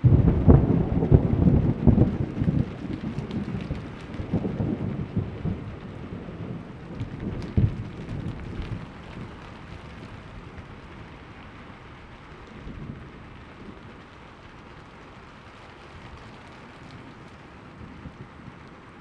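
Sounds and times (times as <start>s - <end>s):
distant thunder rumble: 0.0s - 18.7s
steady rainfall: 0.0s - 19.0s.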